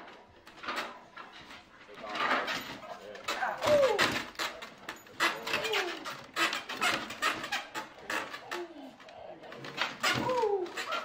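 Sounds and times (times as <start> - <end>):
knocks and rattles on wooden pen: 0.0 - 11.0.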